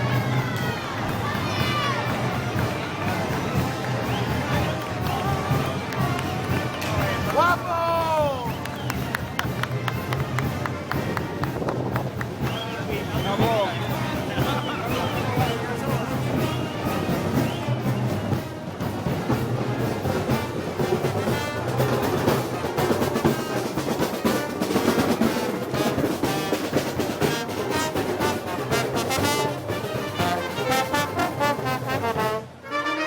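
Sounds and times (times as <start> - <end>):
drum rolls: 0.0 - 32.6
brass band playing: 0.0 - 33.0.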